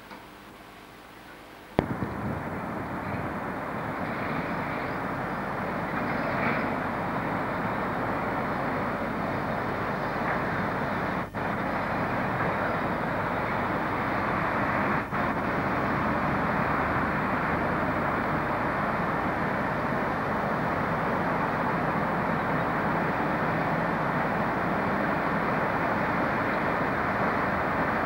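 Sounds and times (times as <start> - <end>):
train rumble: 1.7 - 28.0.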